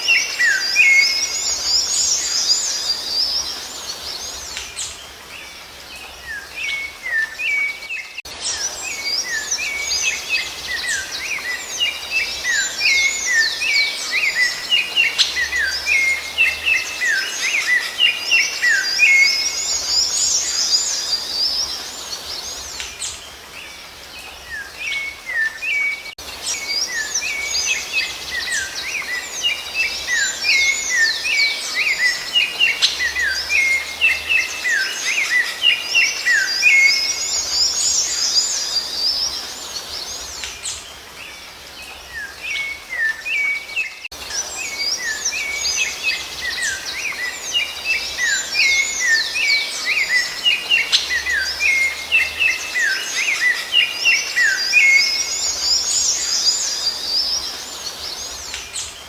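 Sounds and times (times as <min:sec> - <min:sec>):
thrushes singing: 0:00.0 - 0:59.0.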